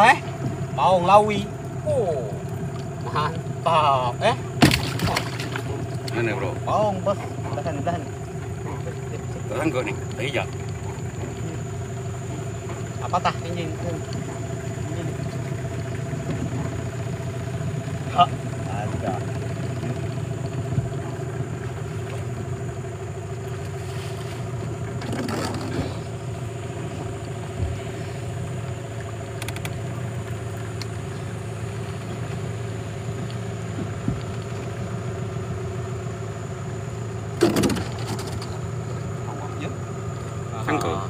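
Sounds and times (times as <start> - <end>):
boat engine idling: 0.0 - 41.0.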